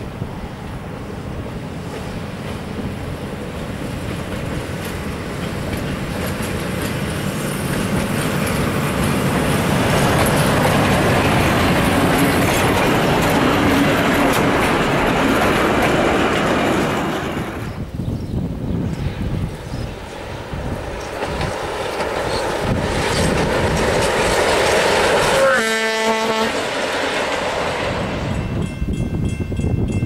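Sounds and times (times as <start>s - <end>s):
railcar passing on track: 0.0s - 30.0s.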